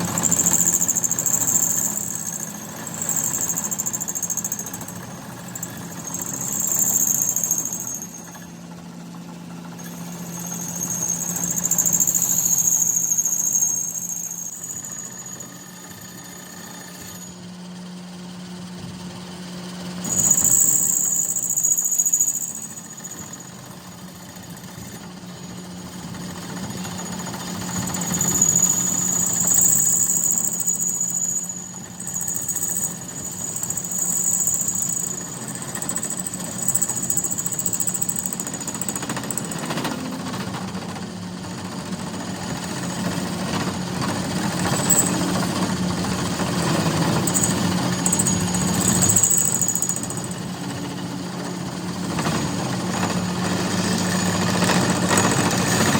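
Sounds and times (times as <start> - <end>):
machine humming and whining: 0.0 - 55.9.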